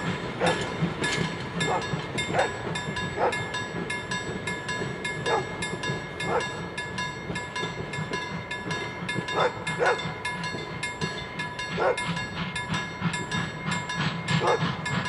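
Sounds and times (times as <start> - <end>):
level-crossing warning bell ringing: 0.0 - 15.0
steam train rumbling along track: 0.0 - 15.0.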